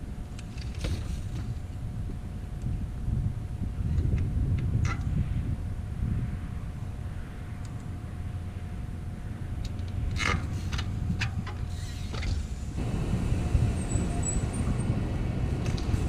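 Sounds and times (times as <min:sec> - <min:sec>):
tyre and wind rumble: 0:00.0 - 0:16.0.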